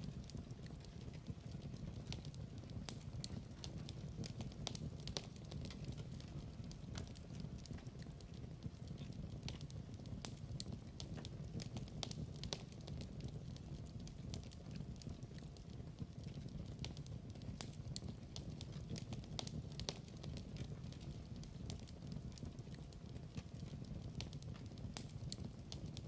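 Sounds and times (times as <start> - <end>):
log fire crackling and popping: 0.0 - 26.0.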